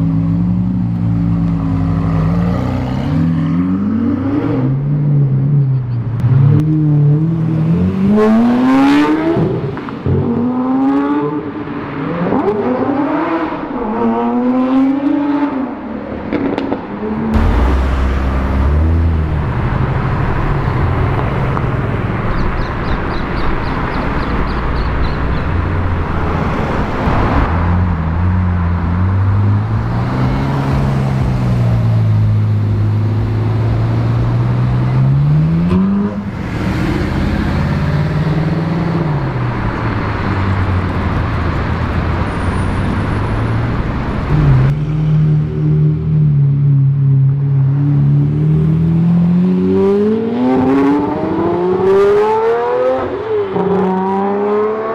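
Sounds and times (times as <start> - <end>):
cars driving by: 0.0 - 54.9
sports car engines revving: 0.0 - 54.9.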